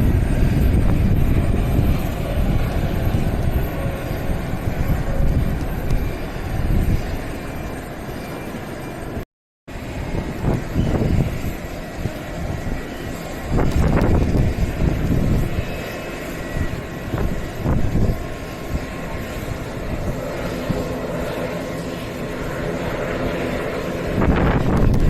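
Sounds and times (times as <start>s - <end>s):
turboprop engines and propellers: 0.0s - 25.0s.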